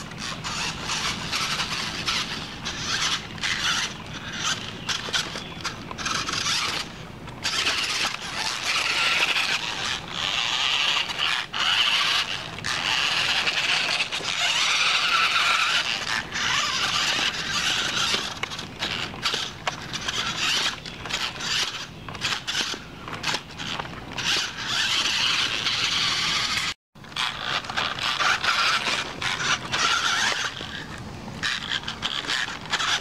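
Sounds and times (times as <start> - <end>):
toy electric motor whining: 0.0 - 33.0.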